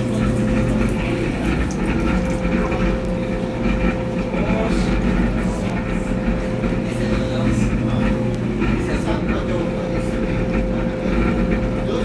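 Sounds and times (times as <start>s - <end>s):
constant mechanical whine: 0.0s - 12.0s
washing machine running: 0.0s - 12.0s.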